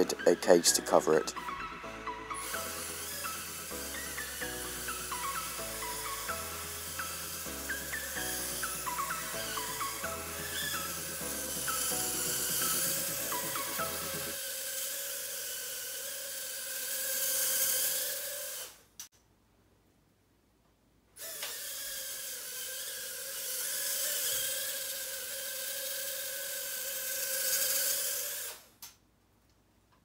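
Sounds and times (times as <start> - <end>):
quadcopter motors whining: 0.0 - 18.9, 21.2 - 28.7.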